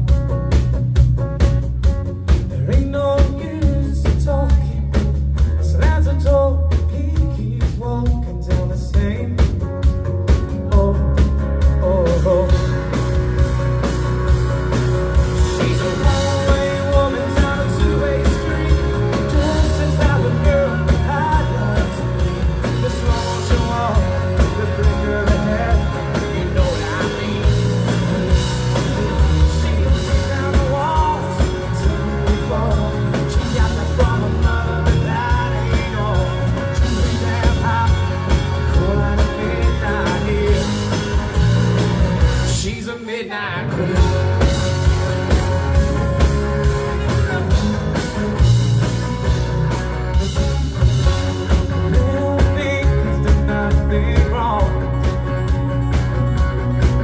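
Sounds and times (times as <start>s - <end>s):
acoustic guitar: 0.0s - 57.0s
man singing: 2.4s - 13.1s, 15.3s - 45.0s, 46.8s - 48.0s, 51.5s - 55.6s.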